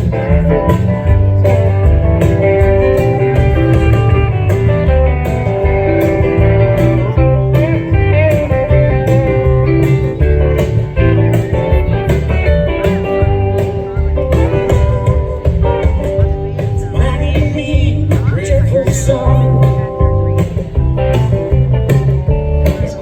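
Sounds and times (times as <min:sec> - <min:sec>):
lead guitar bending notes: 0:00.0 - 0:23.0
pulsing bass line: 0:00.0 - 0:23.0.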